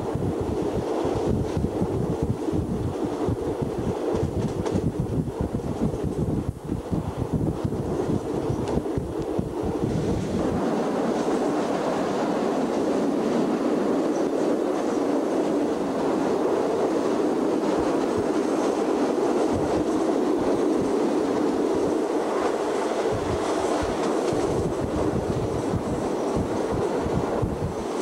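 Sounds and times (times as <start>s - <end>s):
moving train noise: 0.0s - 28.0s.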